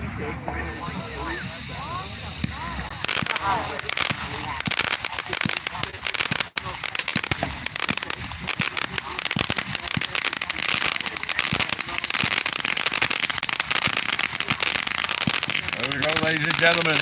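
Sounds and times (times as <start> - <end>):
fireworks crackling: 0.1 - 17.0.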